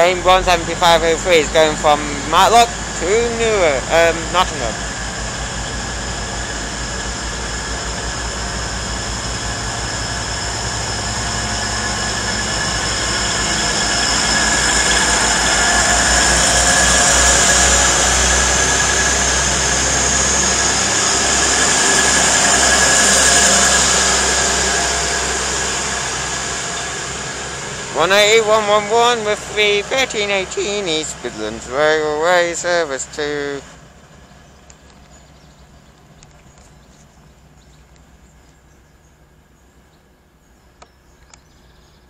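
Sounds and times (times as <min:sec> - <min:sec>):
diesel train engines under power: 0:00.0 - 0:42.0.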